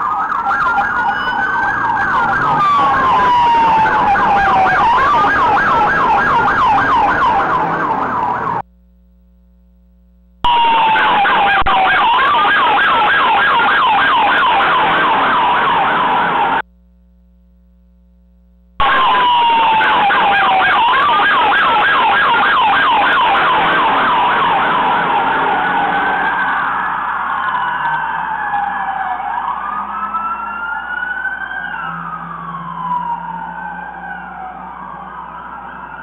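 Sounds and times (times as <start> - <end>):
police siren wail and yelp: 0.0 - 8.6, 10.5 - 16.6, 18.8 - 36.0
slower siren wail: 0.0 - 8.6, 10.4 - 16.6, 18.8 - 36.0.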